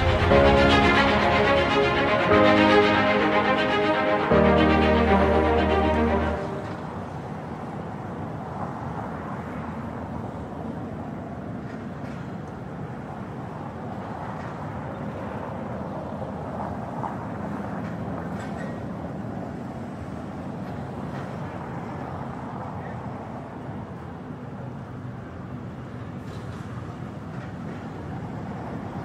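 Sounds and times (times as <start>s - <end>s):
distant city traffic hum: 0.0s - 29.0s.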